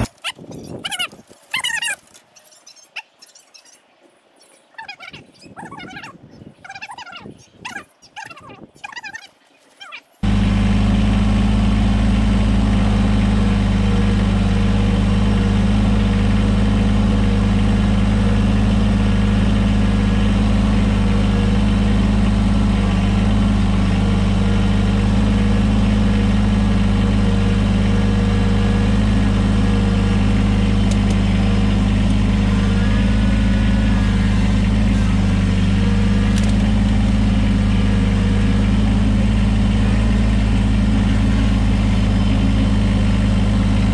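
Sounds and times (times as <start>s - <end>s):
tractor diesel engine running: 0.0s - 2.2s, 10.2s - 43.9s.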